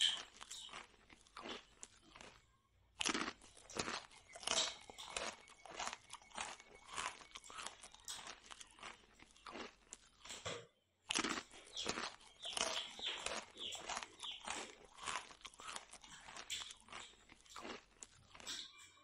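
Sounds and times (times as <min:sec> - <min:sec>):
chewing fried bread: 0:00.0 - 0:19.0.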